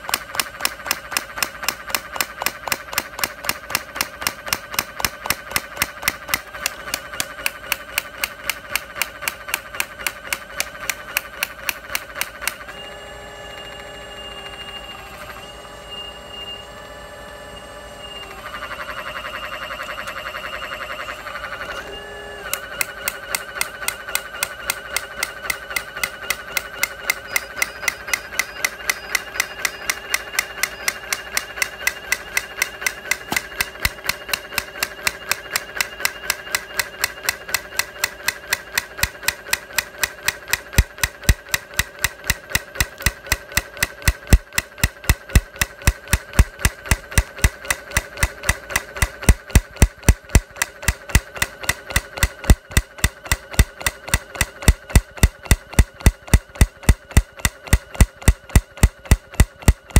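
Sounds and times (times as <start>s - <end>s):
hydraulic breaker hammering brick: 0.0s - 12.8s, 21.3s - 59.9s.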